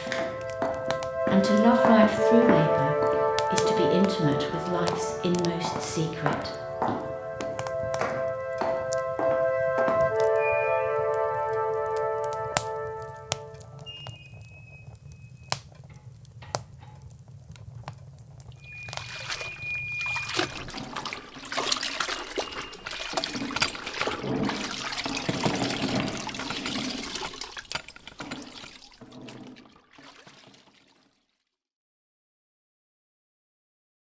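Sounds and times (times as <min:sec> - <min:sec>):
water dripping and trickling: 0:00.0 - 0:10.4, 0:11.0 - 0:31.4.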